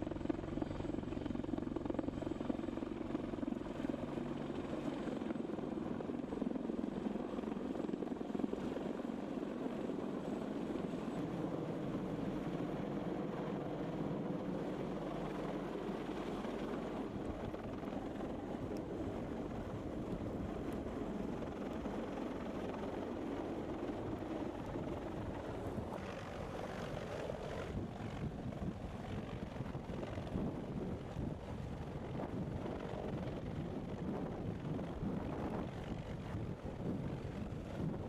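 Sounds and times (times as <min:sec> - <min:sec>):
helicopter hovering overhead: 0:00.0 - 0:38.0.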